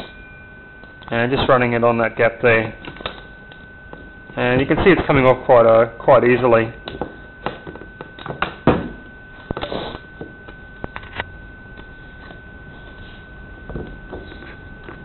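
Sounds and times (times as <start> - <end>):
thin high tone: 0.0 - 15.0.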